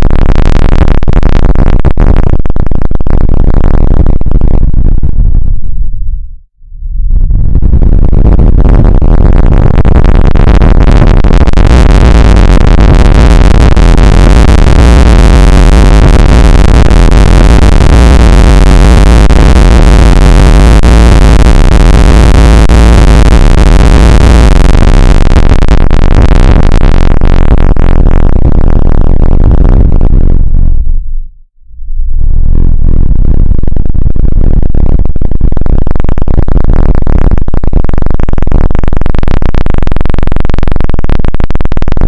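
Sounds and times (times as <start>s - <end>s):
harsh distorted synthesized noise: 0.0s - 6.1s, 6.8s - 31.0s, 32.1s - 42.0s.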